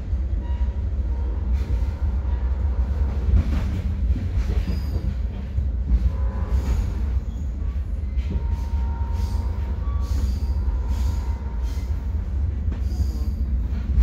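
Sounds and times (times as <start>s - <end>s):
train car rumbling on rails: 0.0s - 14.0s.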